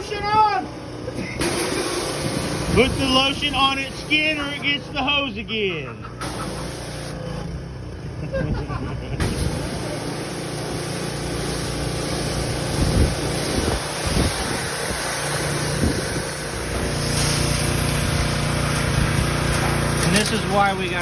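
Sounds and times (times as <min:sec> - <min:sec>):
motor hum: 0:00.0 - 0:21.0
pressure washer spraying water: 0:01.2 - 0:05.1, 0:06.2 - 0:07.4, 0:09.2 - 0:21.0.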